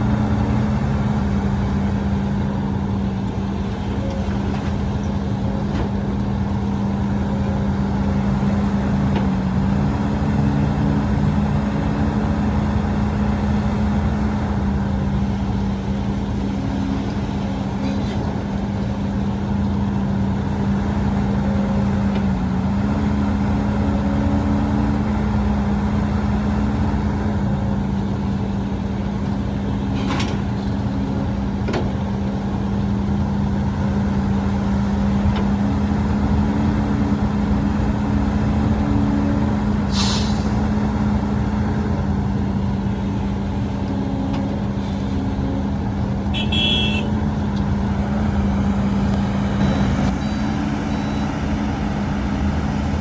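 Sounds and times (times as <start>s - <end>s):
diesel machinery engine running: 0.0s - 53.0s.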